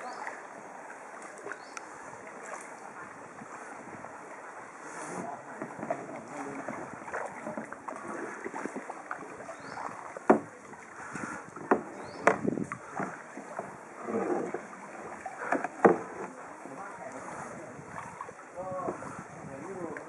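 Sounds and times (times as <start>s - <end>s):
paddles splashing in water: 0.0s - 20.0s.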